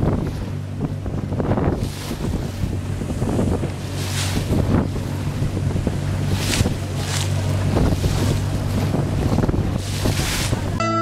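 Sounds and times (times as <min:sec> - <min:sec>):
water splashing surges: 0:00.0 - 0:10.8
wind buffeting microphone: 0:00.0 - 0:10.8
boat motor humming: 0:00.0 - 0:11.0.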